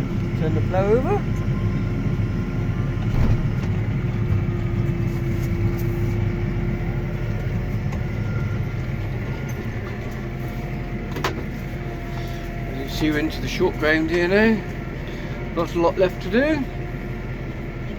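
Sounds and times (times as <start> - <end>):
steady hydraulic whine: 0.0 - 17.9
tractor engine running: 0.0 - 17.9.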